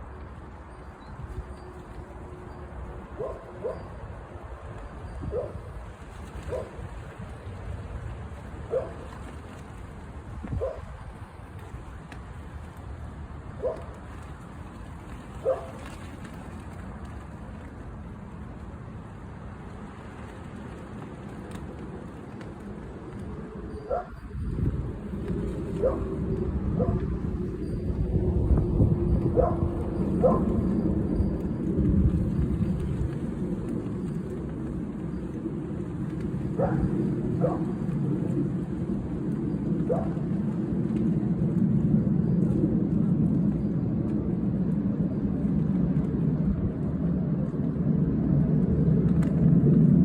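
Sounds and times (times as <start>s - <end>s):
gusty wind on microphone: 0.0s - 50.0s.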